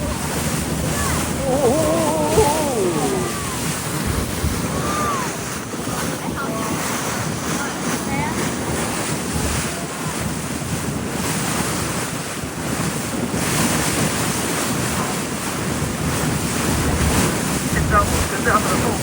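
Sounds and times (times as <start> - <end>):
sea water rushing around boat: 0.0 - 19.0
wind buffeting microphone: 0.0 - 19.0.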